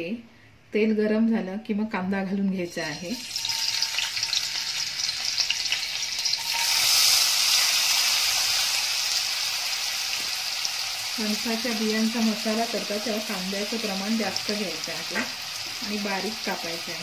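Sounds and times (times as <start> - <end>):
hot oil sizzling: 2.7 - 17.0.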